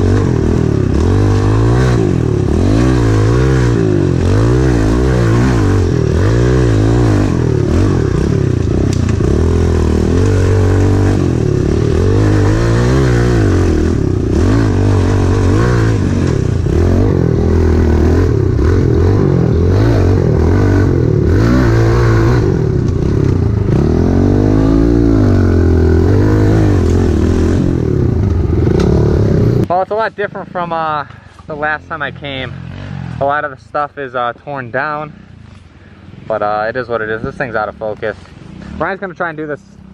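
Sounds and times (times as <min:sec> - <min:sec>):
motorbike engine revving: 0:00.0 - 0:31.0, 0:31.6 - 0:33.8.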